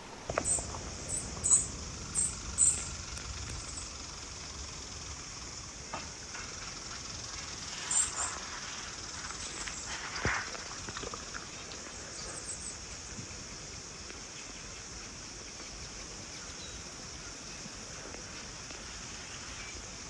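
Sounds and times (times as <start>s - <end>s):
steady outdoor hiss: 0.0s - 20.0s
small birds chirping: 0.3s - 5.6s, 6.7s - 17.8s.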